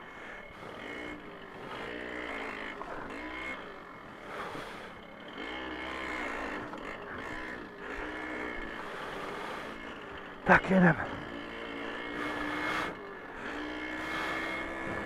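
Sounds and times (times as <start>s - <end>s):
moped engine revving: 0.0s - 15.0s.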